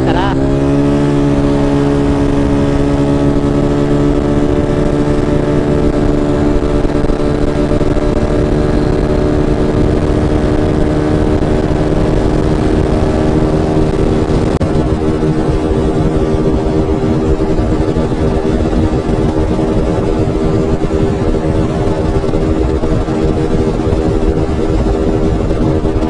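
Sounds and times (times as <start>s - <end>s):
scooter engine running high: 0.0s - 26.0s
wind on microphone: 0.0s - 26.0s.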